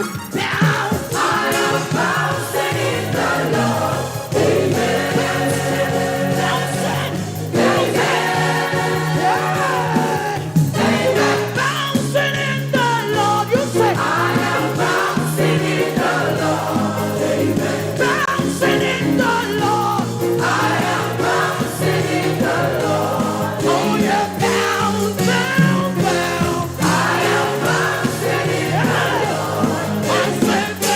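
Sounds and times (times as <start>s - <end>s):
band with steady beat: 0.0s - 30.9s
choir and congregation singing: 0.0s - 30.9s.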